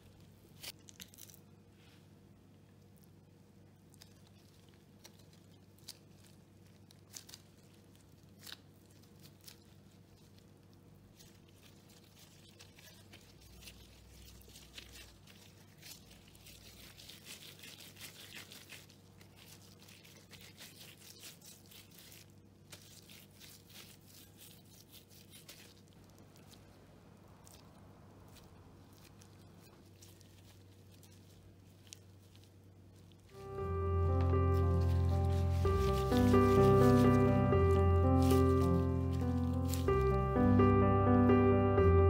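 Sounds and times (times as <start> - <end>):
low steady hum: 0.0 - 42.0
plastic gloves crinkling: 0.0 - 42.0.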